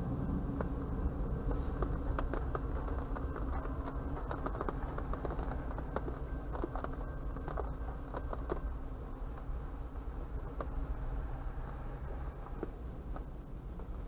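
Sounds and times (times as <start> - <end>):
diesel locomotive rumble and hum: 0.0 - 14.0.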